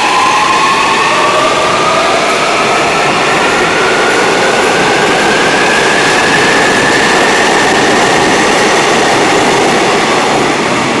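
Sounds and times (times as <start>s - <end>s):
electric subway train running: 0.0s - 11.0s.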